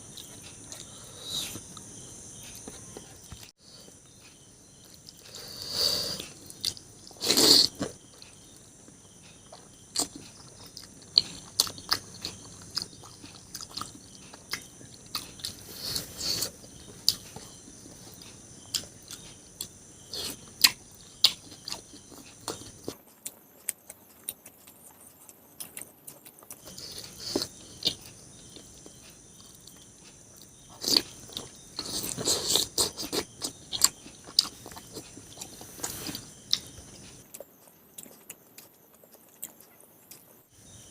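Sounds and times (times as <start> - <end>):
person chewing and crunching: 0.0 - 40.5.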